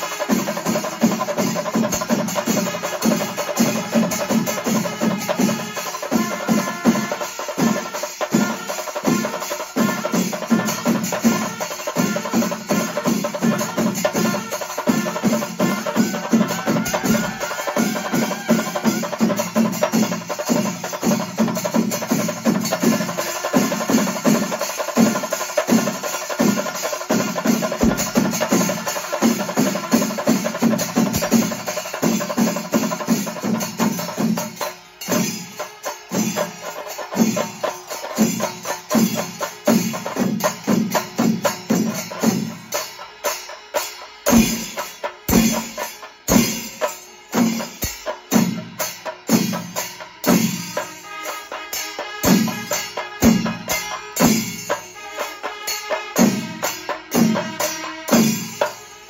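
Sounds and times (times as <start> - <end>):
cymbals clashing: 0.0 - 59.0
drums beaten with sticks: 0.0 - 59.0.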